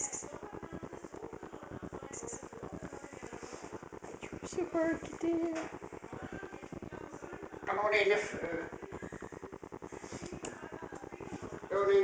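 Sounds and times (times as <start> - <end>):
fast pulsing background music: 0.0 - 12.0.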